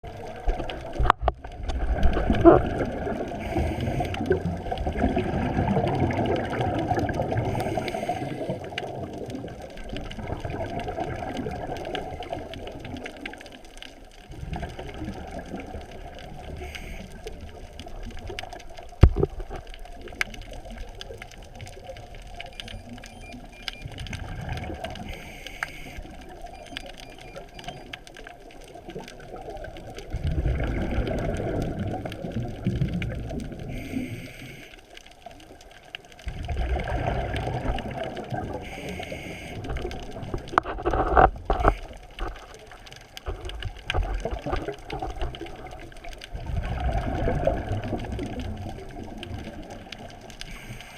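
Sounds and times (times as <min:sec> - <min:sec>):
exhaled bubbles rumbling: 0:00.0 - 0:25.3, 0:25.9 - 0:34.2, 0:35.1 - 0:50.7
low murmur of water: 0:00.0 - 0:50.9.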